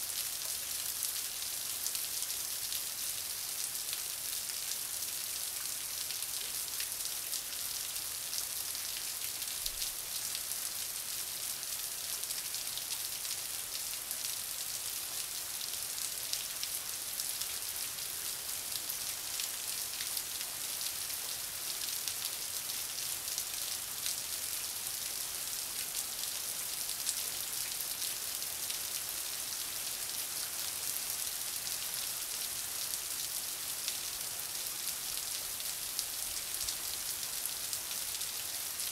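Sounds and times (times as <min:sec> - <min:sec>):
heavy rain on pavement and cars: 0:00.0 - 0:38.9.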